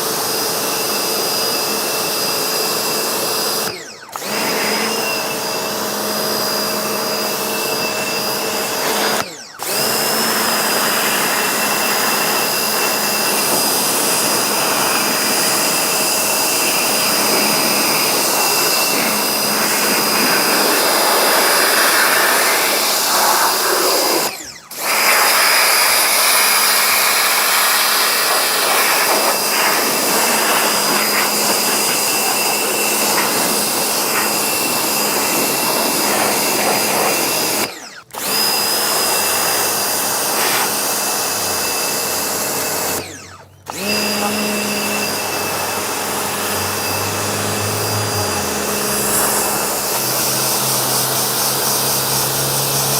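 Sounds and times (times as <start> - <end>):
small electric motor whining: 0.0 - 52.9.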